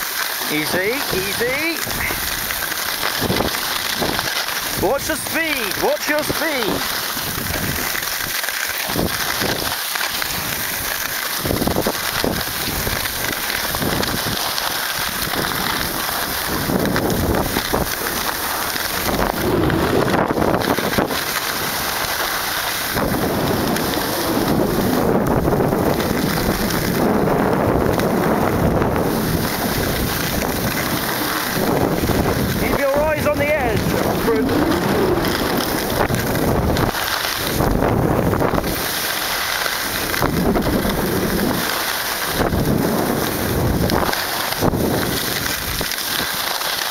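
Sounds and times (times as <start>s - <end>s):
skis scraping over snow: 0.0s - 46.9s
wind noise on microphone: 0.0s - 46.9s.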